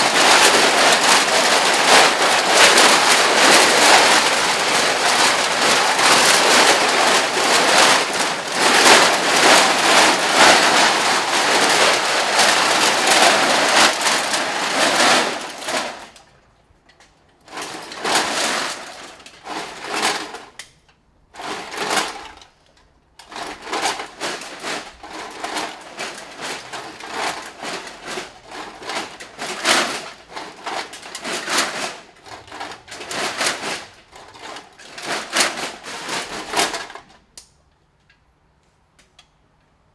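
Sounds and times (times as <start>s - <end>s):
aluminium cans rattling together: 0.0s - 16.2s, 21.4s - 37.2s.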